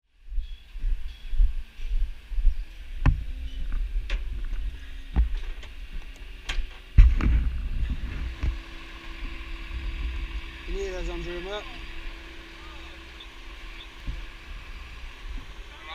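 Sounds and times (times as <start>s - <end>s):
wind buffeting microphone: 0.3s - 15.7s.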